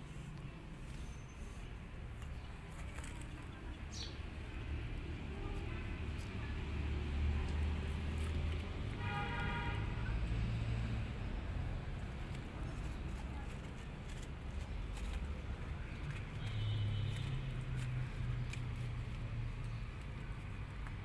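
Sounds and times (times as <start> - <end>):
vehicle passing rumble: 1.9 - 21.0.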